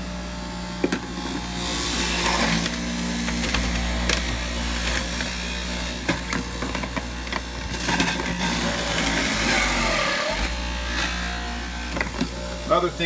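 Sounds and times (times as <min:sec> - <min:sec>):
juicer motor humming: 0:00.0 - 0:13.0
beets crunching and rattling: 0:01.0 - 0:12.5.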